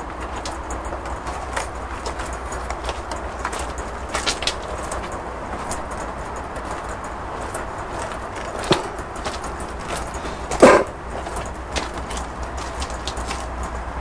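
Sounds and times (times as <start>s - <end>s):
clicks and knocks: 0.0s - 13.8s
outdoor background noise: 0.0s - 14.0s.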